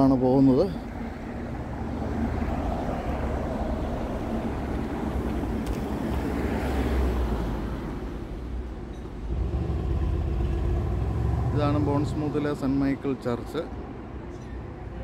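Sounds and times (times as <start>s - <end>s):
cars driving past: 0.7s - 15.0s.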